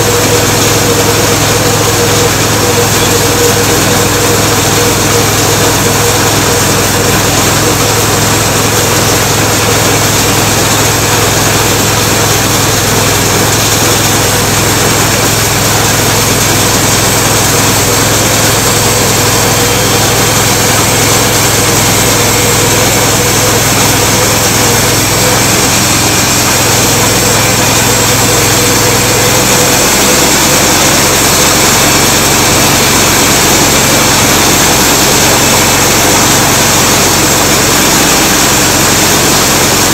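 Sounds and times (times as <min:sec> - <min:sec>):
bandsaw blade cutting log: 0:00.0 - 0:39.9
small engine running: 0:00.0 - 0:39.9.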